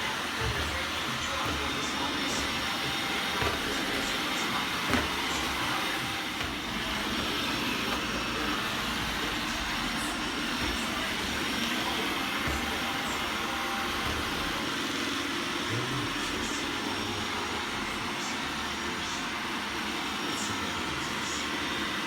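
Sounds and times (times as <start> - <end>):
robot vacuum whirring: 0.0 - 22.0.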